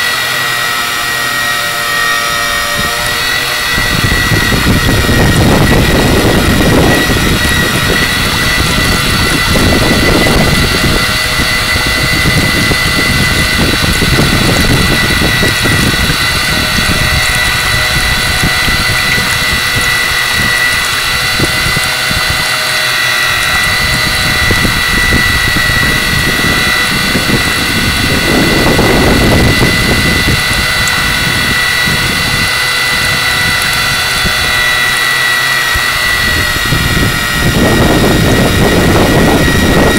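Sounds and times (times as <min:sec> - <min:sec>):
boat engine running: 0:00.0 - 0:39.9
constant high whine: 0:00.0 - 0:39.9.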